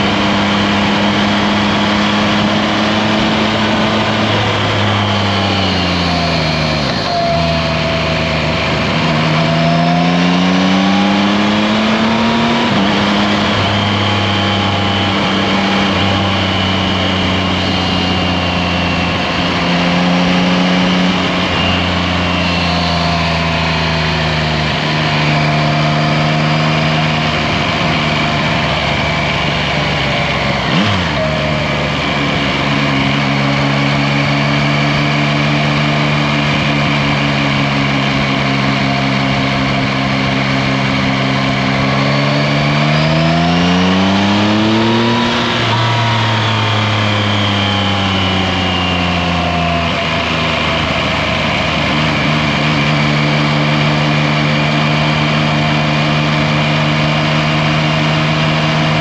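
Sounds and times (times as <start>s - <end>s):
motorcycle engine cruising: 0.0s - 59.0s
road and wind noise: 0.0s - 59.0s.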